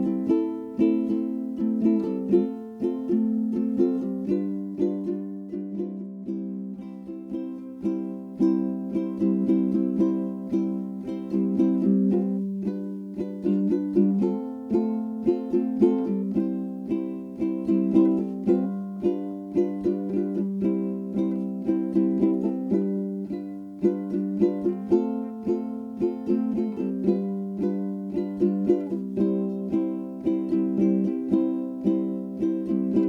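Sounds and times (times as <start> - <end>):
plucked ukulele tune: 0.0 - 33.0.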